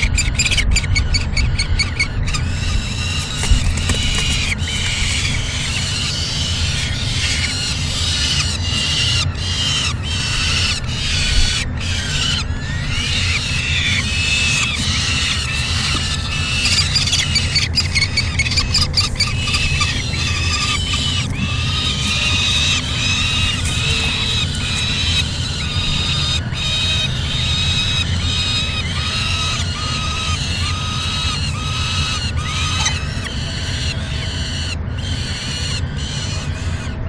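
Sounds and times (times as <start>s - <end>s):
falcon chicks begging calls: 0.0s - 37.0s.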